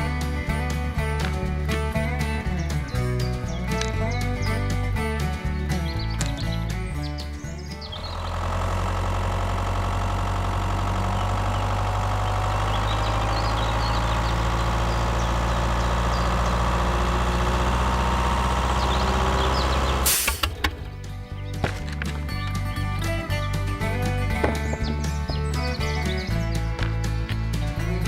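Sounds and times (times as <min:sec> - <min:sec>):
engine running at low pitch: 0:00.0 - 0:28.0.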